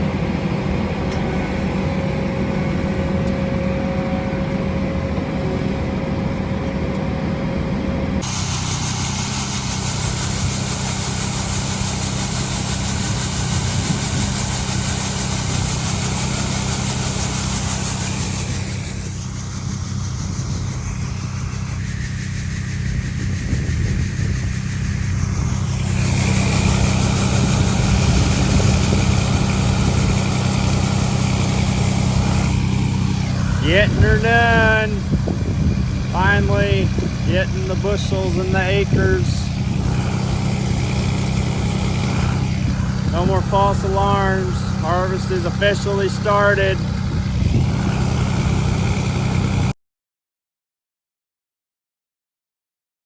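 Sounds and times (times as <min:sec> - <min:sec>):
diesel engine running under load: 0:00.0 - 0:49.8.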